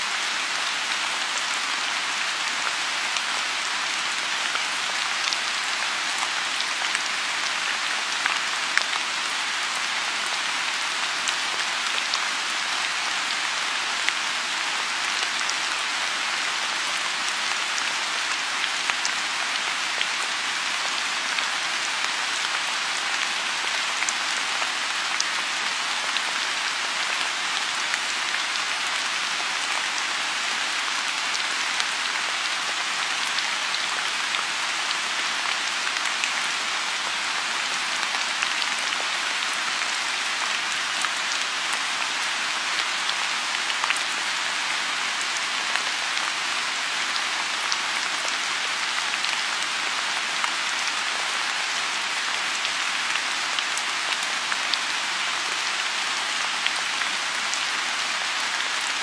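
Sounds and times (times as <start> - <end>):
rain falling on a pond: 0.0 - 59.0.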